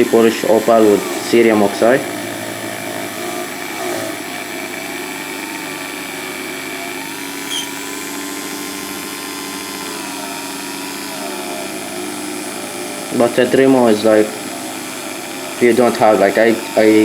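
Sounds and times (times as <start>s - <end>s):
rotary tool whining: 0.0s - 17.0s.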